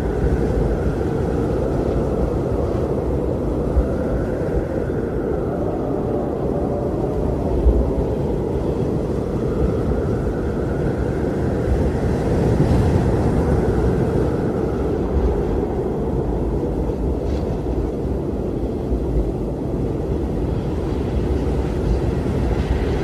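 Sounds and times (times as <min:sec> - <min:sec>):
strong wind rumbling: 0:00.0 - 0:23.0.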